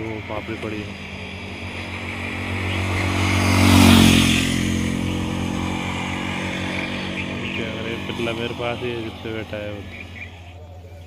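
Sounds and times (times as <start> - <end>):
motorcycle driving past: 0.0 - 10.7.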